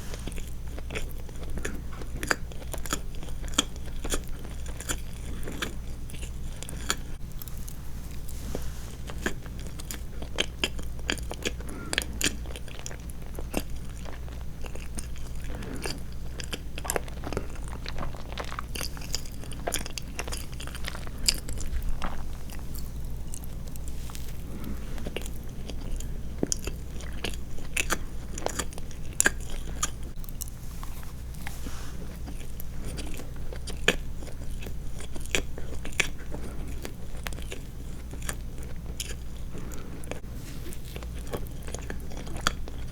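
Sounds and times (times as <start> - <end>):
steady low hum: 0.0 - 42.9
chewing with wet mouth clicks: 0.2 - 8.2, 9.0 - 31.5, 32.1 - 42.9.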